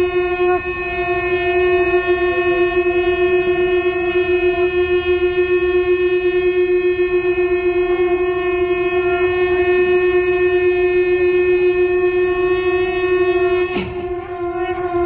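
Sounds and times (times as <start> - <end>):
conch shell blown: 0.0 - 15.0.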